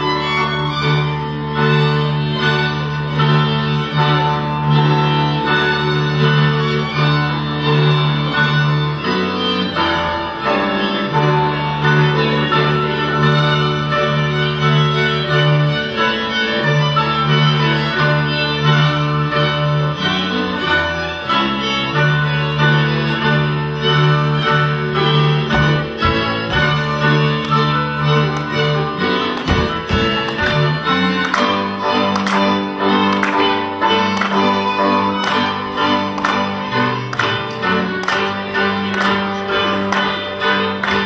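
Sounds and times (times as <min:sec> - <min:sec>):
folk dance music on bowed strings: 0:00.0 - 0:41.0.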